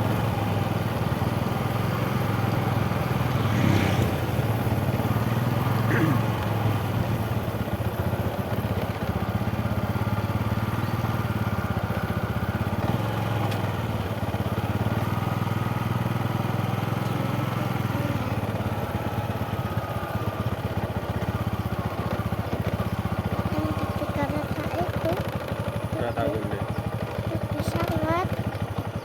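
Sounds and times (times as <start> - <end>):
motorcycle engine running steadily: 0.0 - 29.0.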